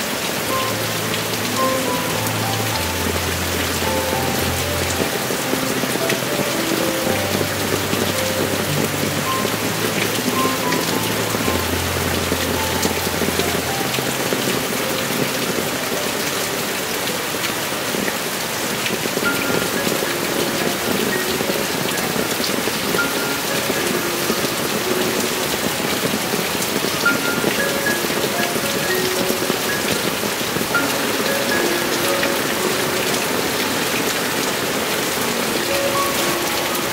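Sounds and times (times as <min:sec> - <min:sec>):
heavy rain falling: 0:00.0 - 0:36.9
soft musical notes: 0:00.0 - 0:36.9.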